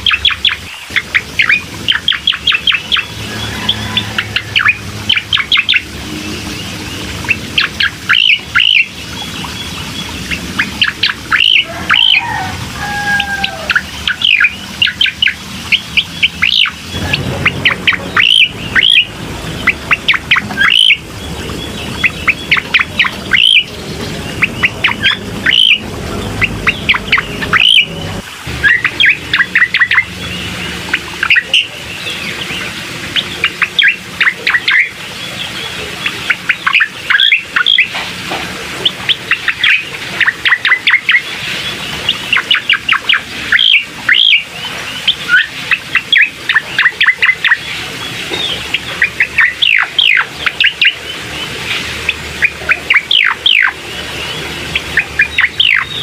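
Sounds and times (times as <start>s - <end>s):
recorded bird chirping: 0.0s - 56.0s.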